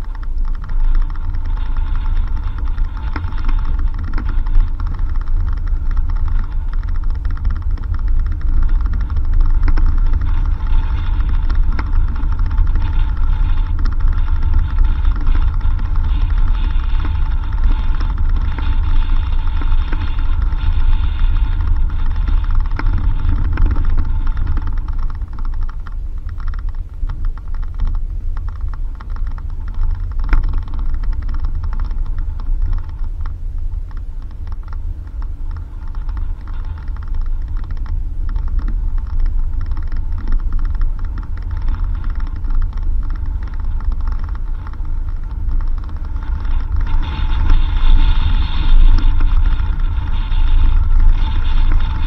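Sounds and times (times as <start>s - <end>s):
car engine and road rumble: 0.0s - 52.0s
rattles and creaks from car body: 0.0s - 52.0s.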